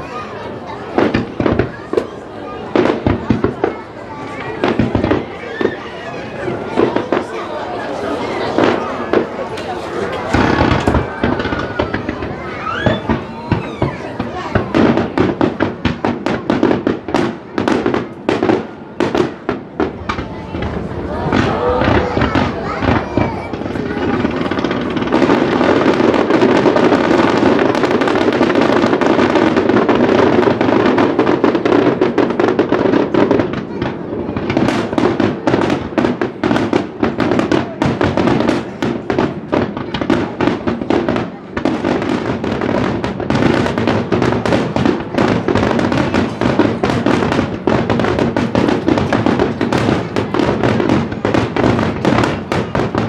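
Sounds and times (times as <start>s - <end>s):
fireworks crackling and popping: 0.0s - 53.0s.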